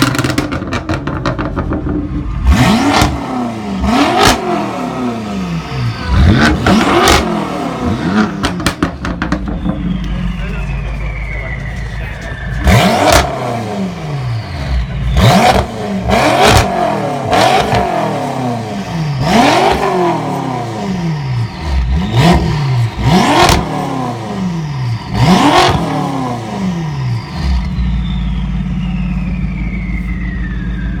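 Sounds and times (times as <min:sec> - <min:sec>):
sports car engine revving: 0:00.0 - 0:30.9
car engine idling: 0:00.0 - 0:31.0.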